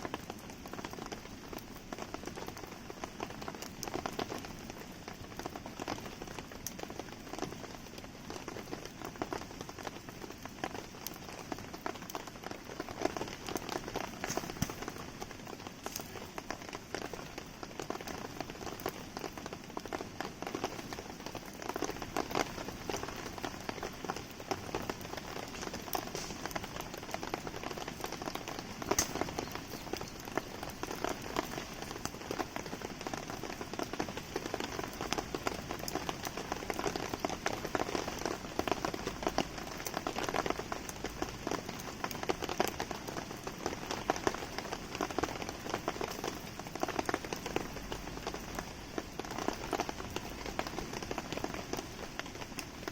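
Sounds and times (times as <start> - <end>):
campfire crackling: 0.0 - 52.9
steady rain: 0.0 - 52.9.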